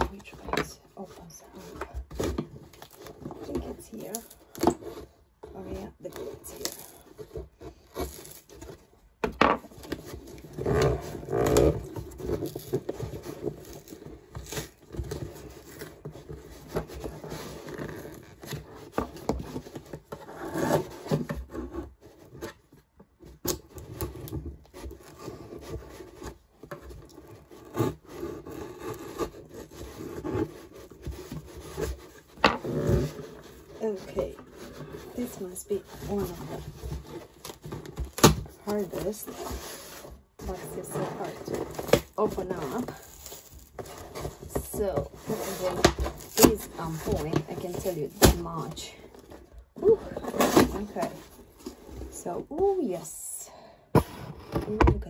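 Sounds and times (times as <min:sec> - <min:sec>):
cardboard box rubbing and scraping: 0:00.0 - 0:53.2.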